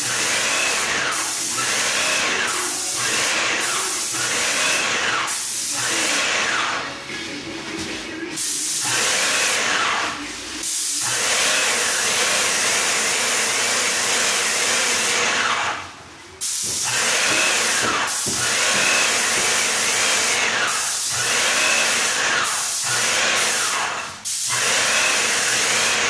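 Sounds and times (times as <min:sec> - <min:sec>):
paint sprayer hissing: 0:00.0 - 0:06.9, 0:07.6 - 0:15.4, 0:16.4 - 0:26.0.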